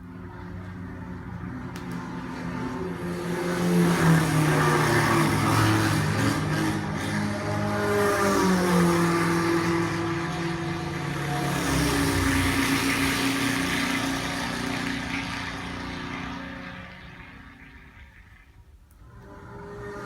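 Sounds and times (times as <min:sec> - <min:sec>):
racing car engine passing: 0:00.1 - 0:20.0.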